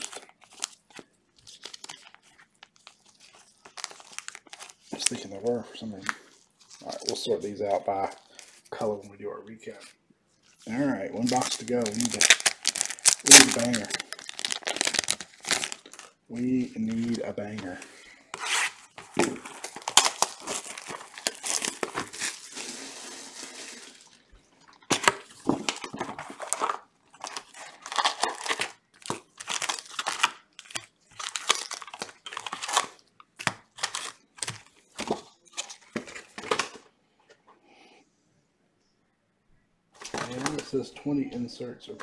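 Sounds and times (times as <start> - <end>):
foil card packs crinkling: 0.0 - 9.0, 10.4 - 36.8, 40.0 - 40.8
plastic wrapper crinkling and tearing: 0.0 - 9.0, 10.3 - 36.8, 40.0 - 40.8.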